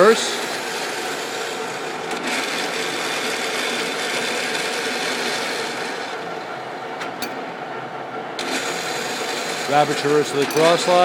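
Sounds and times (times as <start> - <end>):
lathe mechanical whir: 0.0 - 11.0.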